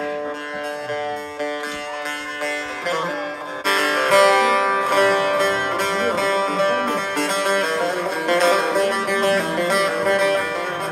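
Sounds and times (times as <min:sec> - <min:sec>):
plucked string instrumental music: 0:00.0 - 0:10.9.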